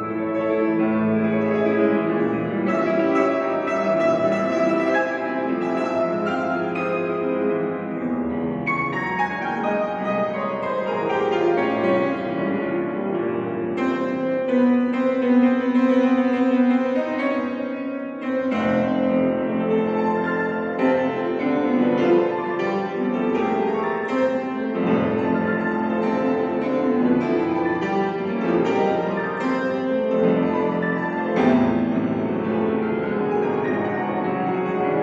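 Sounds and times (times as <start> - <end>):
piano playing: 0.0 - 35.0.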